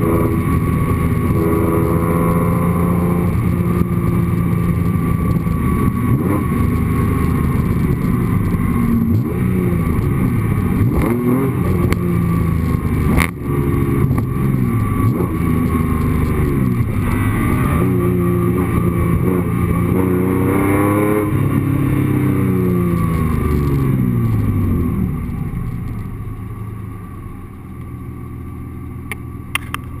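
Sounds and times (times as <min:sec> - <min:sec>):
car engine revving: 0:00.0 - 0:26.4.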